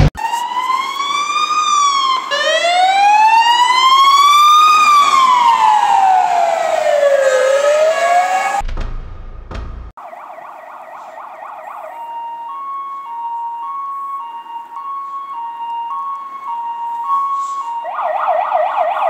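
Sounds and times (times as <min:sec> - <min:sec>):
ambulance siren wailing: 0:00.0 - 0:08.6, 0:10.0 - 0:19.0.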